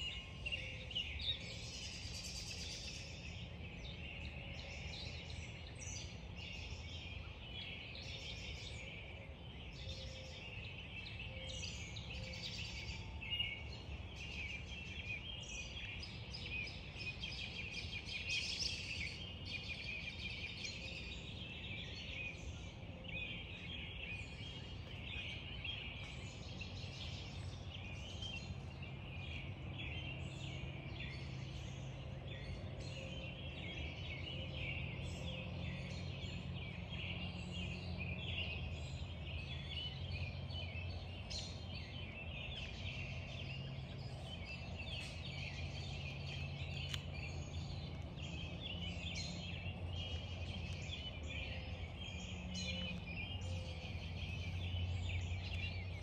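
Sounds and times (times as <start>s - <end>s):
songbirds singing and calling: 0.0s - 56.0s.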